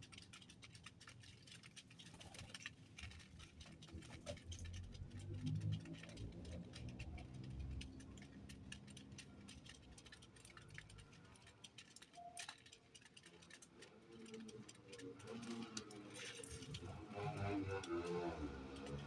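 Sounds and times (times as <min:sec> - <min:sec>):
birds pecking at seed: 0:00.0 - 0:19.0.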